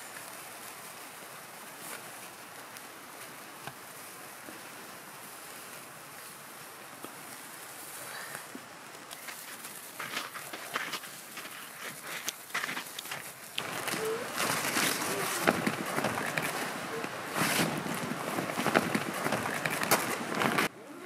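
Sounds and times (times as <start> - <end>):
sparklers fizzing: 0.0 - 20.7
faint crackles: 0.0 - 21.0.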